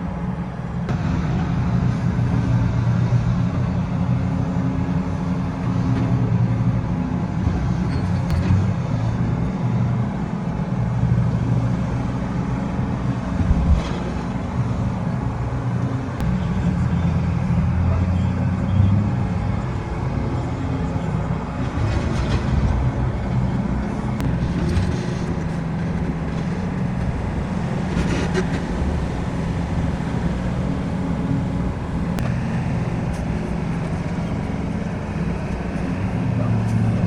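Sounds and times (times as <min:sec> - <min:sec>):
heavy engine rumbling: 0:00.0 - 0:37.0.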